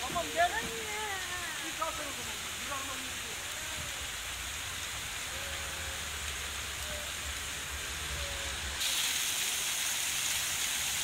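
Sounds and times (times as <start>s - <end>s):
water jets splashing into basin: 0.0s - 11.0s.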